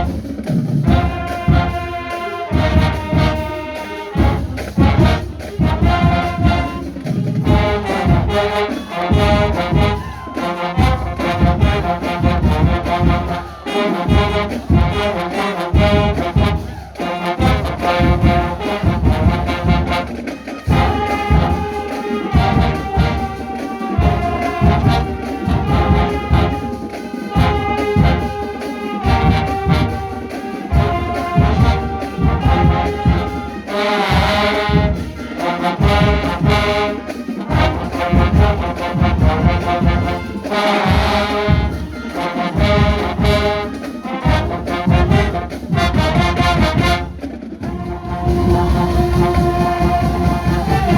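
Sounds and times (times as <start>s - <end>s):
brass section playing a tune: 0.0s - 50.9s
steady drum beat: 0.0s - 50.9s.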